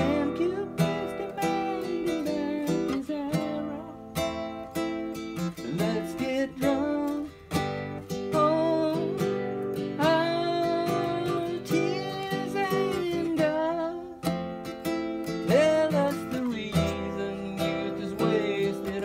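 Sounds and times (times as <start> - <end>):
man singing: 0.0 - 14.4, 15.2 - 19.0
classical guitar chords: 0.0 - 19.0.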